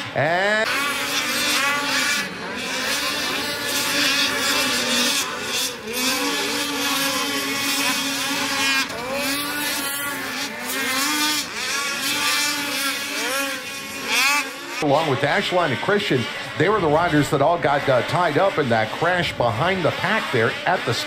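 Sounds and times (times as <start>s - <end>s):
snowmobile engines revving: 0.0s - 21.0s.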